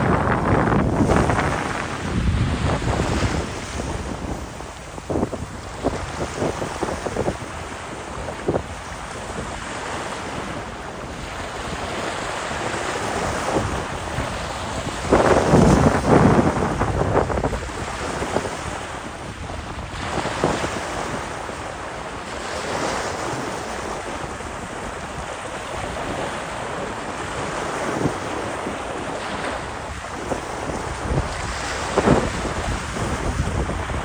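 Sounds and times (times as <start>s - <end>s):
ocean waves breaking: 0.0s - 34.0s
wind buffeting microphone: 0.0s - 34.0s.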